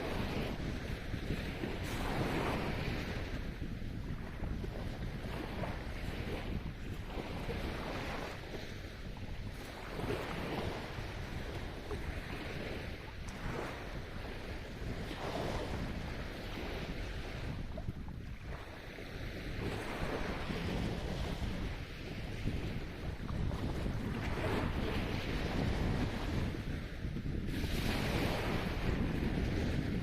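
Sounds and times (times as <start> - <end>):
sea waves breaking on shore: 0.0 - 30.0
wind buffeting microphone: 0.0 - 30.0.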